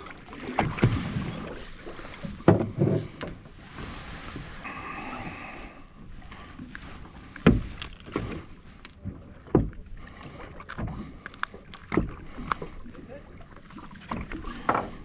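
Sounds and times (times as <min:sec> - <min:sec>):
water slapping against hull: 0:00.0 - 0:15.0.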